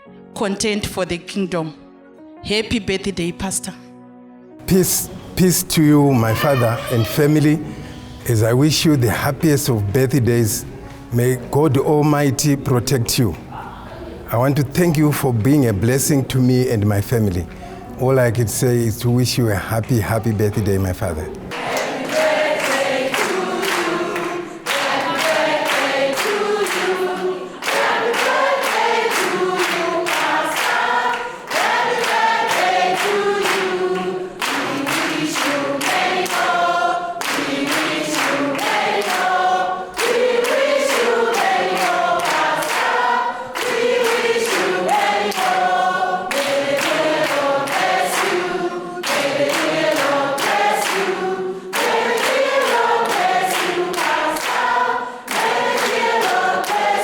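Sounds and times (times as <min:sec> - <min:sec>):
choir singing in harmony: 0:04.6 - 0:17.2, 0:17.8 - 0:57.0.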